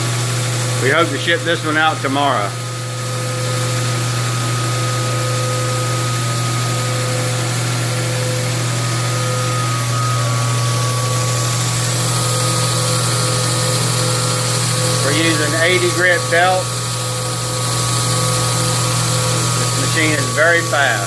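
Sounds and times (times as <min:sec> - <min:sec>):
belt grinding blade hiss: 0:00.0 - 0:21.0
grinder motor hum: 0:00.0 - 0:21.0.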